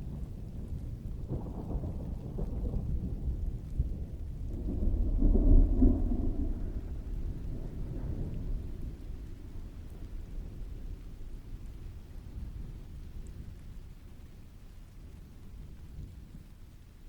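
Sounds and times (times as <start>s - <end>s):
thunder rumbling: 0.0s - 14.4s
steady rain: 0.0s - 17.0s.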